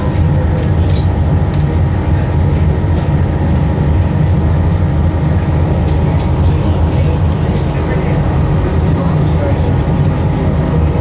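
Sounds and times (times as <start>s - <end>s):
railcar engine rumble: 0.0s - 11.0s.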